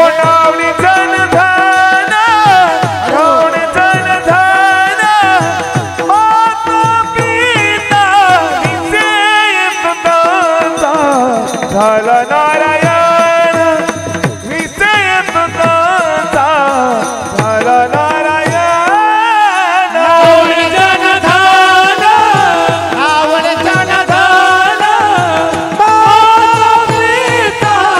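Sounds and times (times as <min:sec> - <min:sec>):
man singing devotional melody: 0:00.0 - 0:27.9.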